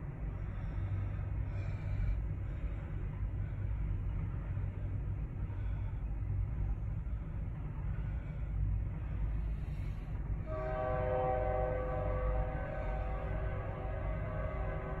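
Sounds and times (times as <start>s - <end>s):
distant diesel locomotive rumble: 0.0s - 15.0s.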